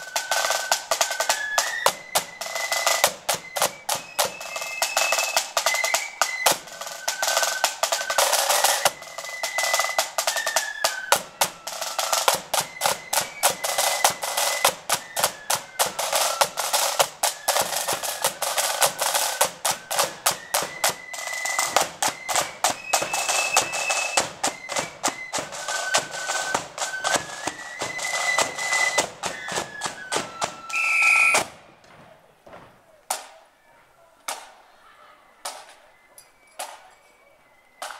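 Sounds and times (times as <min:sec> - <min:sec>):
flutes playing melody: 0:00.0 - 0:31.7, 0:35.3 - 0:37.9
snare drumming: 0:00.0 - 0:33.4.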